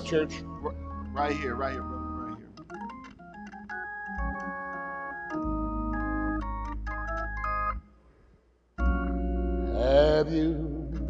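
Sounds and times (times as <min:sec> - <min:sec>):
organ playing sustained chords: 0:00.0 - 0:08.0, 0:08.8 - 0:11.0.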